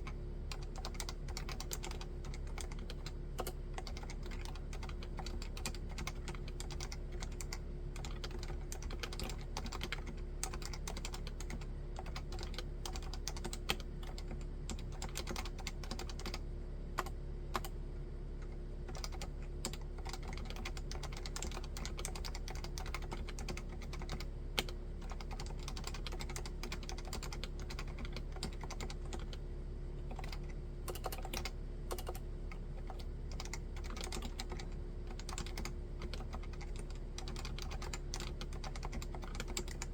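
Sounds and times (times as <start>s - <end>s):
keyboard typing: 0.0s - 16.4s, 17.0s - 17.7s, 18.4s - 29.4s, 30.1s - 39.9s.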